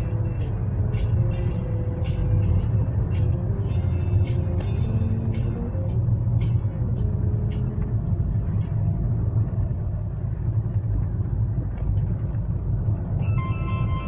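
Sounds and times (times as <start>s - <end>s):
car interior road and engine rumble: 0.0s - 14.0s.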